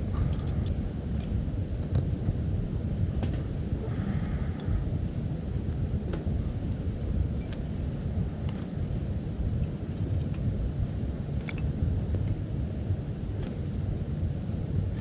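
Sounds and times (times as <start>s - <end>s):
wood fire rumbling in a stove: 0.0s - 15.0s.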